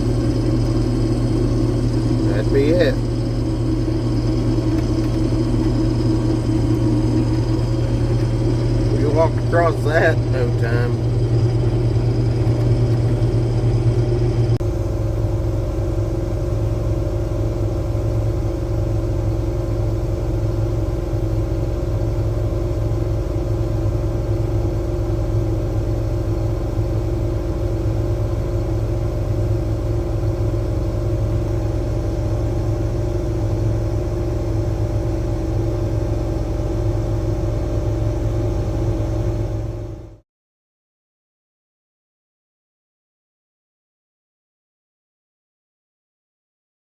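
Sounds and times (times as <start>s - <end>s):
combine harvester running: 0.0s - 40.2s.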